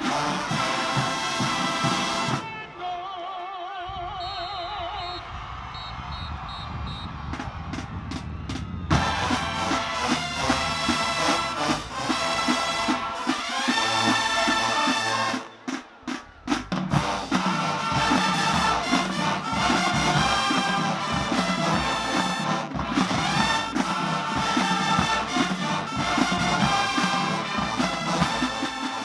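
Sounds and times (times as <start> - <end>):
marching band playing: 0.0 - 2.7, 4.4 - 29.0.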